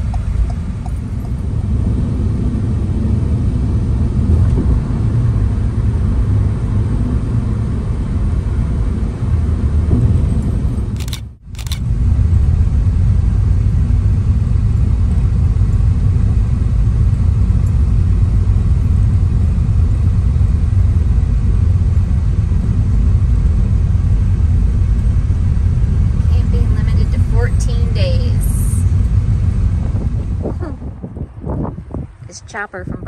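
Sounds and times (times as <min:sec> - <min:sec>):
road and engine rumble in cabin: 0:00.0 - 0:33.0.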